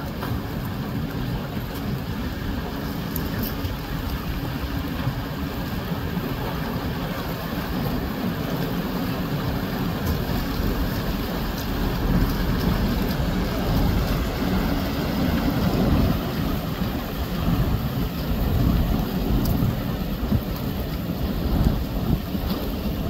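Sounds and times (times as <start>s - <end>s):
boat engine low rumble: 0.0s - 23.0s.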